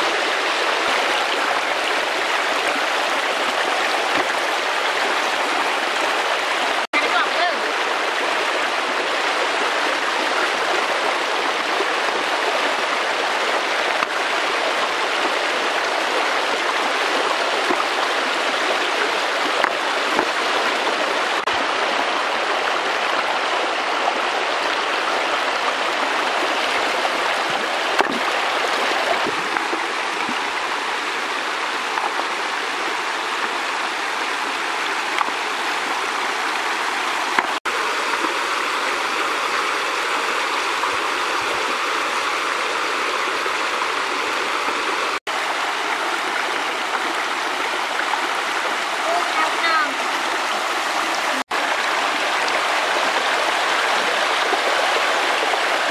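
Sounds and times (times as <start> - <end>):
river rushing over stones: 0.0 - 55.9.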